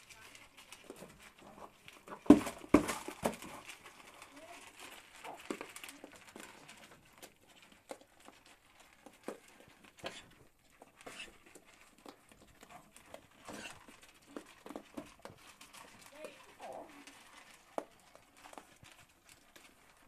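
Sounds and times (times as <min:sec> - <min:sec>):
goats crunching corn kernels: 0:00.0 - 0:20.0.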